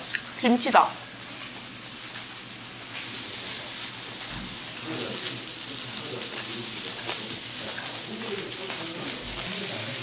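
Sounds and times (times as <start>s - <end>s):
beef sizzling on grill pan: 0.0s - 10.0s.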